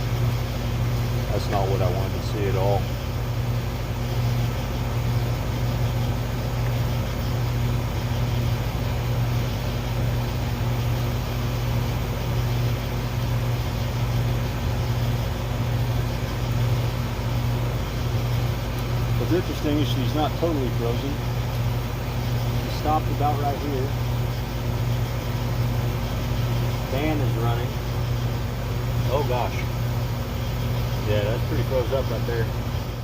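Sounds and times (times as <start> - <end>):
air conditioner fan humming: 0.0 - 33.0.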